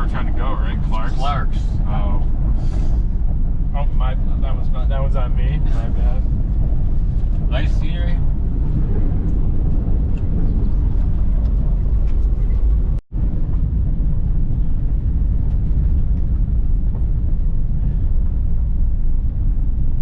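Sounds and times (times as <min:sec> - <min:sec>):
car driving on dirt road: 0:00.0 - 0:20.0.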